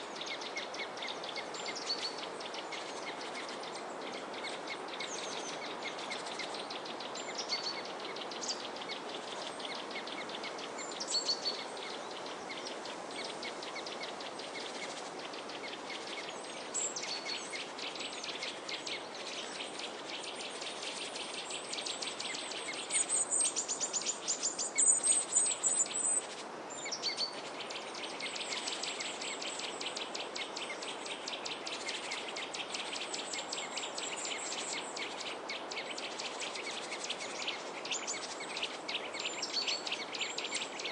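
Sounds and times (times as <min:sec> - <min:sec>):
small birds chirping: 0:00.0 - 0:40.9
steady background hiss: 0:00.0 - 0:40.9.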